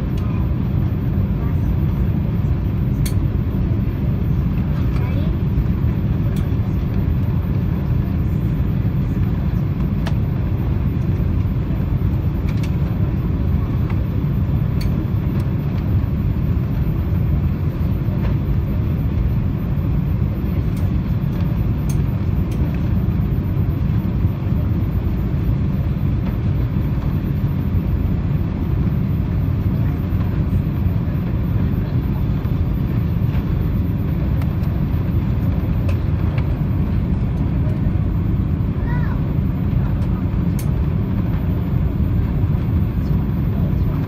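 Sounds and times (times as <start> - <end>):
airplane cabin engine roar: 0.0 - 44.0.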